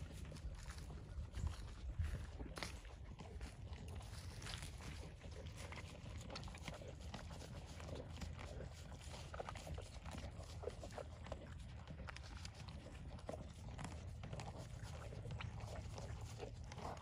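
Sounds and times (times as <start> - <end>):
horses chewing grain: 0.0 - 17.0.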